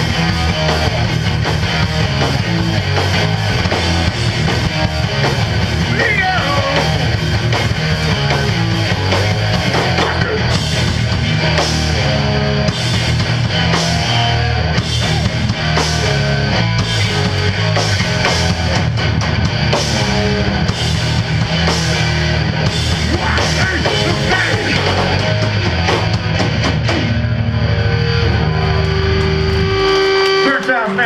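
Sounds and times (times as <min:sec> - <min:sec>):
drums and cymbals crashing: 0:00.0 - 0:27.5
distorted electric guitar: 0:00.0 - 0:31.0.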